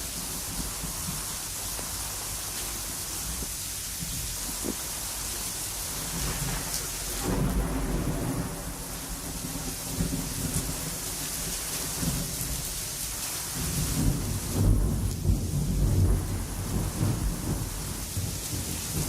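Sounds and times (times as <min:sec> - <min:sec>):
thunder rumbling: 0:00.0 - 0:12.8, 0:13.6 - 0:19.0
steady rain: 0:00.0 - 0:19.0.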